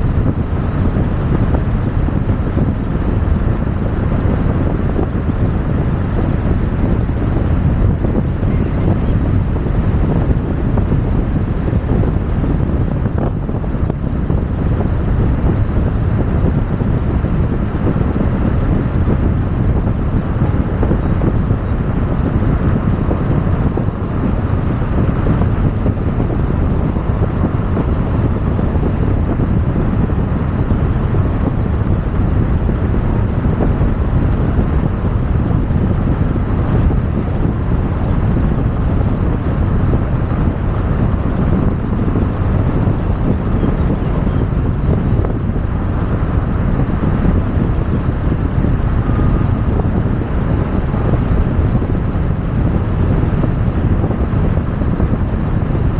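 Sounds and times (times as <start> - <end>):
tyre and wind noise: 0.0 - 55.9
wind buffeting microphone: 0.0 - 55.9.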